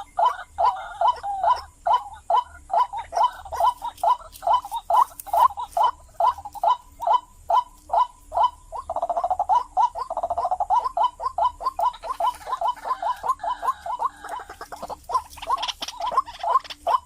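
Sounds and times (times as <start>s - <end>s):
waterhen harsh calls: 0.0s - 17.0s.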